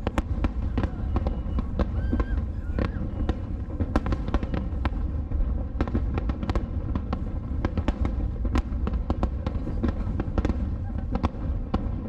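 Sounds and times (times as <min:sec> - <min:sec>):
firework bangs and crackles: 0:00.0 - 0:12.0.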